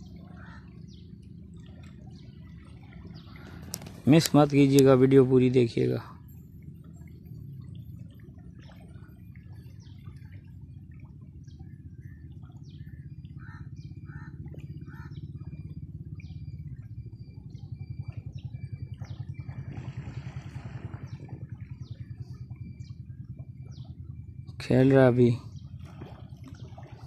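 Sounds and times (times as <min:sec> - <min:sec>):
birds chirping: 0:00.0 - 0:27.0
low rumble with fast pulsing: 0:00.0 - 0:27.0.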